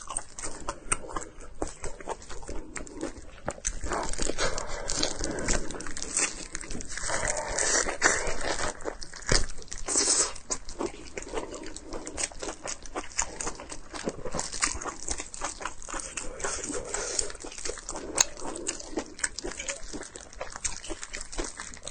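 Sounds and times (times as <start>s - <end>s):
person chewing and smacking: 0.0s - 21.9s.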